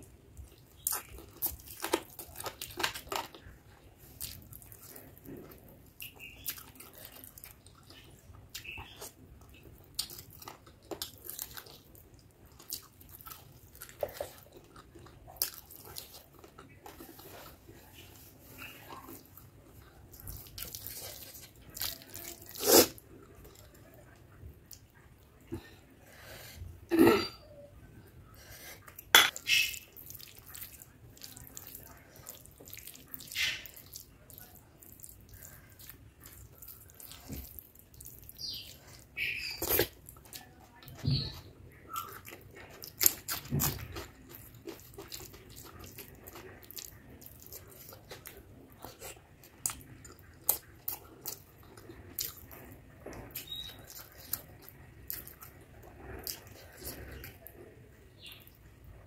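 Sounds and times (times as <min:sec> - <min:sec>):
chewing and lip smacks: 0:00.3 - 0:25.6, 0:28.8 - 0:59.0.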